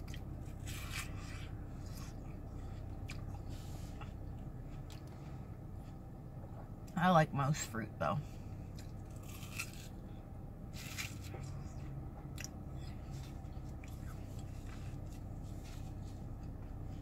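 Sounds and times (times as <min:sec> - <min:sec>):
person chewing watermelon: 0:00.0 - 0:07.0, 0:08.6 - 0:17.0
steady low hum: 0:00.0 - 0:17.0.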